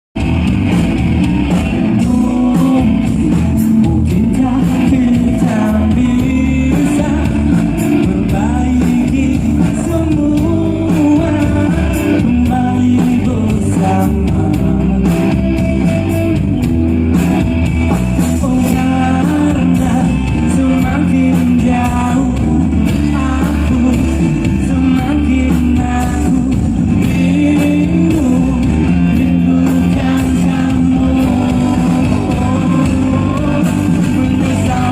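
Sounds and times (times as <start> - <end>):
live rock band with electric guitar: 0.2 - 34.9.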